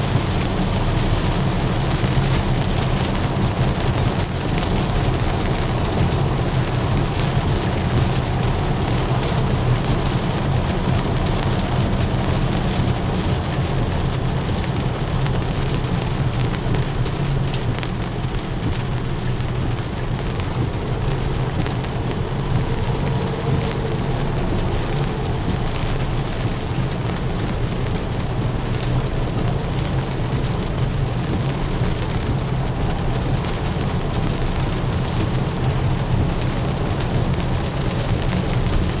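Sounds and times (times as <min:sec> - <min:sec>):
low road rumble: 0:00.0 - 0:39.0
raindrops pattering: 0:00.0 - 0:39.0.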